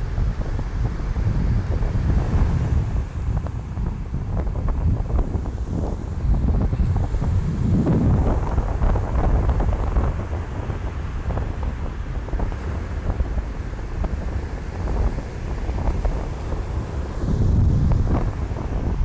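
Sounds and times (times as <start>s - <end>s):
ocean surf washing onto beach: 0.0s - 19.0s
wind buffeting microphone: 0.0s - 19.0s.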